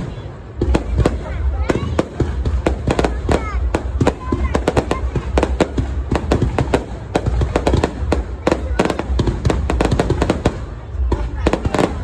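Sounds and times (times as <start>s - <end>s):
fireworks cracks and bangs: 0.0s - 12.0s.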